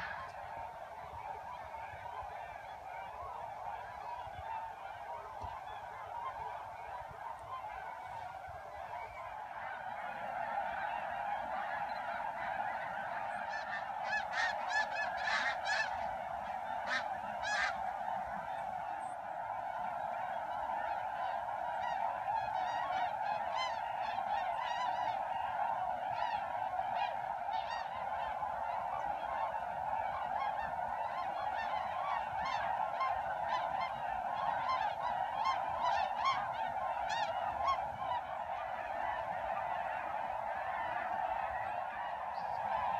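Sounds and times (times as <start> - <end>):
flock of waterfowl calling: 0.0 - 42.9.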